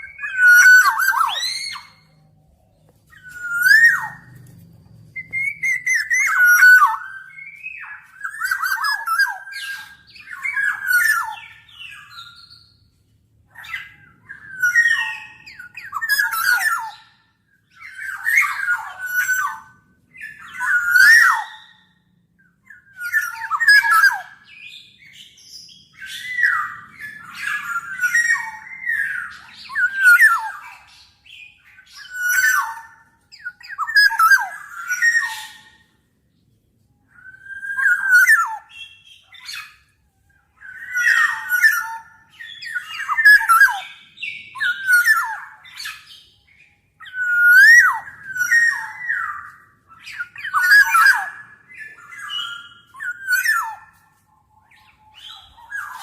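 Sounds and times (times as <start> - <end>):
bird fluty whistled calls: 0.0 - 36.1, 36.8 - 56.0.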